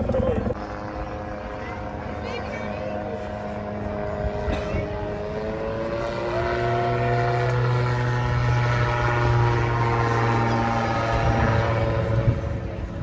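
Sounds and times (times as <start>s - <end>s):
twin-rotor helicopter flying past: 0.0s - 13.0s.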